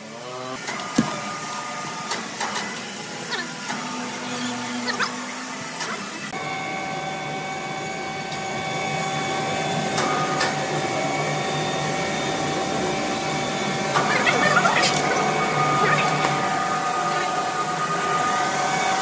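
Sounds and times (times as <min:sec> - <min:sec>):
electric hoist whining: 0:00.0 - 0:19.0.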